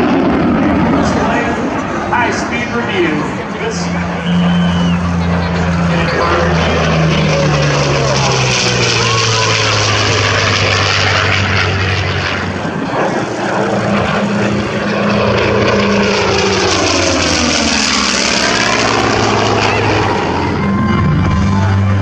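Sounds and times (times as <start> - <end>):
propeller aircraft engine drone: 0.0 - 22.0.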